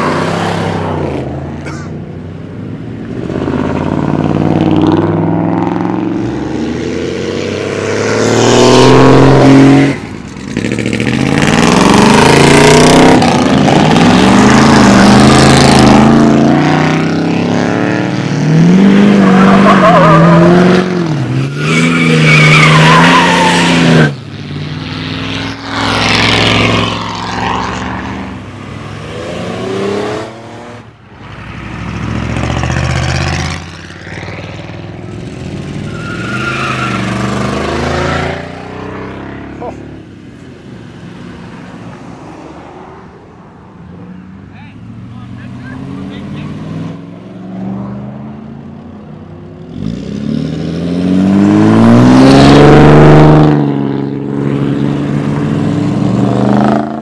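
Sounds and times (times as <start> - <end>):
pickup trucks revving past: 0.0 - 57.0.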